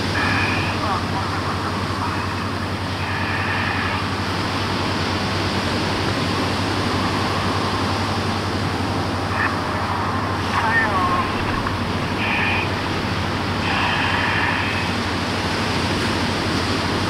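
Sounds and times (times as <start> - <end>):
low engine hum: 0.0 - 17.0
surf breaking on beach: 0.0 - 17.0.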